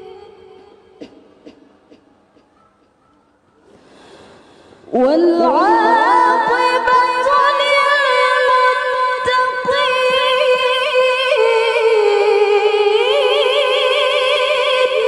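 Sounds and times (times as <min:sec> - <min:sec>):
woman reciting in melismatic voice: 0:00.0 - 0:02.1, 0:04.9 - 0:15.0.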